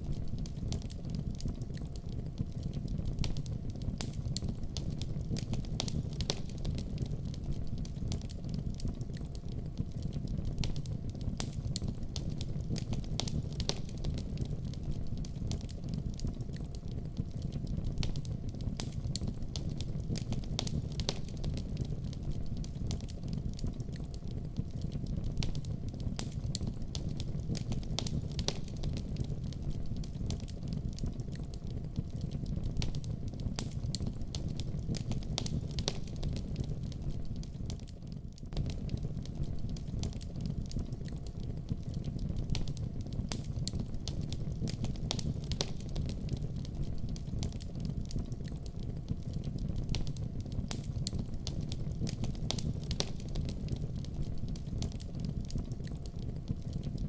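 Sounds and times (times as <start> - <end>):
burning wood crackling and popping: 0.0 - 57.0
flames rumbling: 0.0 - 57.0.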